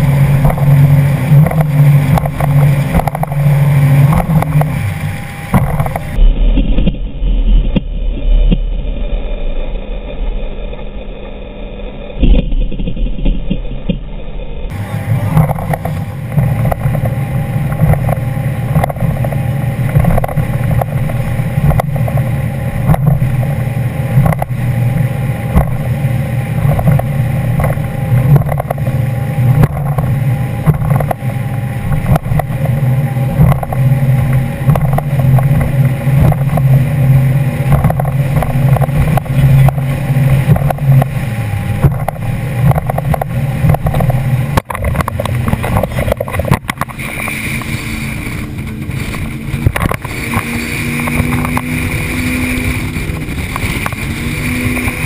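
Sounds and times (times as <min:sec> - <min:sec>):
rushing water: 0:00.0 - 0:07.8, 0:14.7 - 0:55.0
powerboat engines running: 0:00.0 - 0:55.0
wind: 0:00.0 - 0:55.0.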